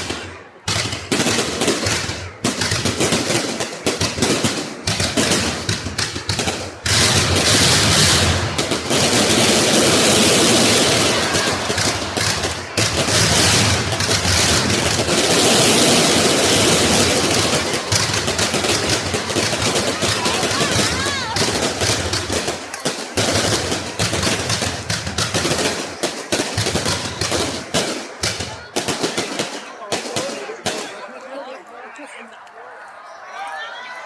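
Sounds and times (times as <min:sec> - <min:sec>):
fireworks bangs and crackling: 0:00.0 - 0:31.1.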